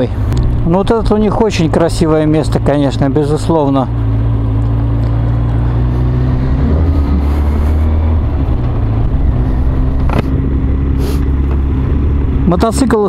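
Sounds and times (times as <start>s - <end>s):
road and wind noise: 0.0s - 13.0s
motorcycle engine running: 0.2s - 13.0s.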